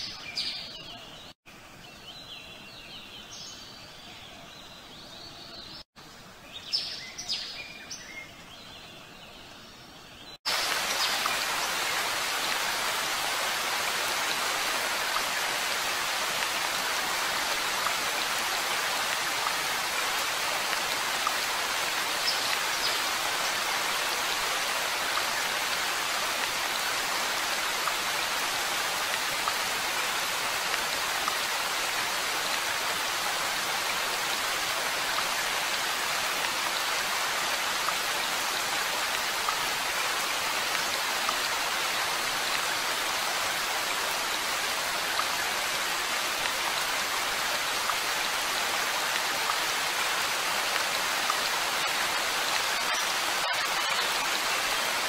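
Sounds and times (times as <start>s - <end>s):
steady rain hiss: 1.5s - 55.0s.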